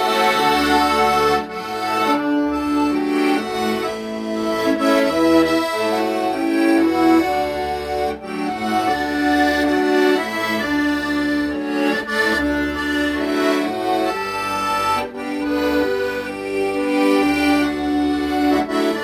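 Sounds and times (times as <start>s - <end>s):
accordion slow melody: 0.0s - 19.0s.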